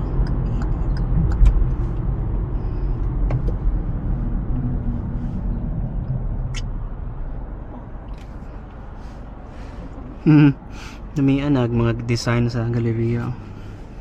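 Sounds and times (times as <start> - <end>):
motor vehicle engine rumble: 0.0 - 14.0.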